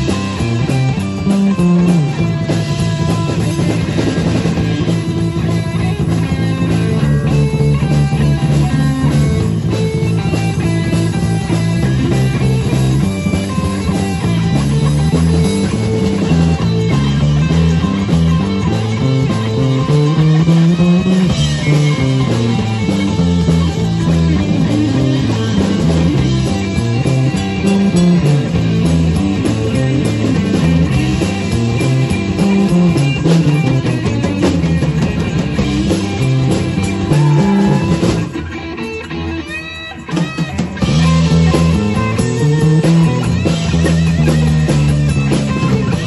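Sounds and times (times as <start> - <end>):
bending guitar notes: 0.0 - 46.0
live rock band playing: 0.0 - 46.0.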